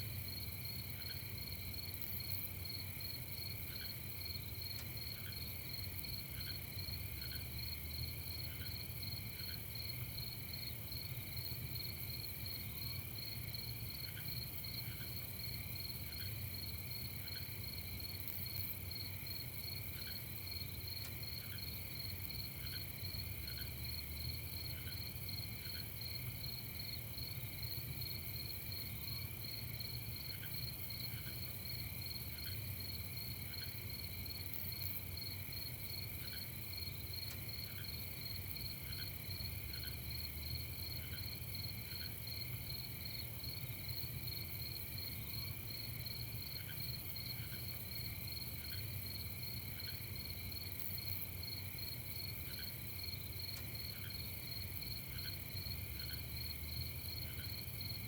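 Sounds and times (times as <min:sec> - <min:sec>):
crickets chirping in trills: 0:00.0 - 0:58.0.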